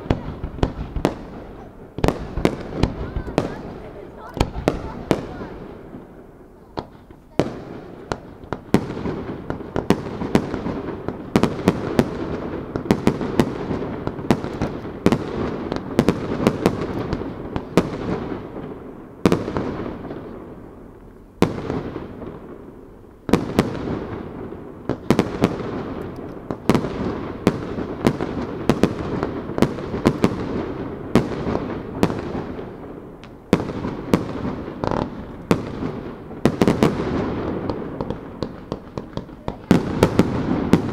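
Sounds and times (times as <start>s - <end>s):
firework shells bursting: 0.0s - 20.2s, 21.0s - 40.9s.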